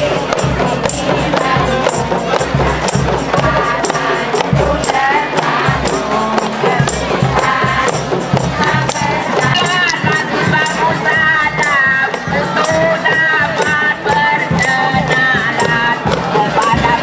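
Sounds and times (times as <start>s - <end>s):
frame drums beaten by hand: 0.0s - 17.0s
voices singing: 0.0s - 17.0s.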